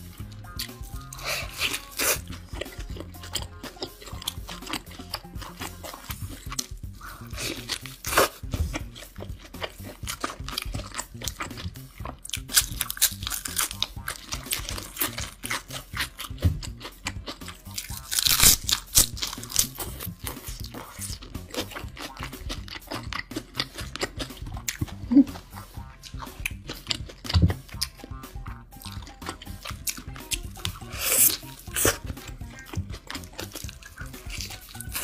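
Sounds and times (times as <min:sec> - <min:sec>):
quiet background music: 0:00.0 - 0:35.0
wet chewing: 0:00.0 - 0:35.0
crisp crunching of food: 0:00.5 - 0:25.0, 0:28.8 - 0:35.0.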